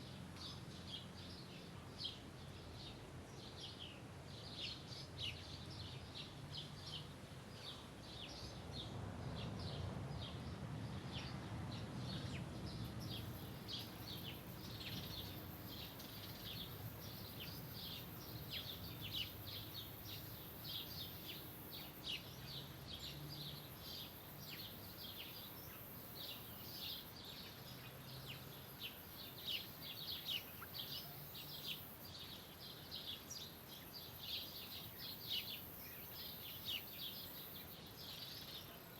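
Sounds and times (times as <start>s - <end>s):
faint background hiss: 0.0s - 38.9s
small birds chirping: 0.0s - 38.9s.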